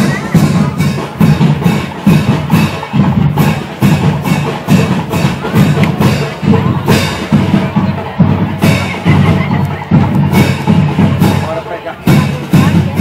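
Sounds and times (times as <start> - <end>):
heavy low drum: 0.0 - 13.0
marching band drums: 0.0 - 13.0.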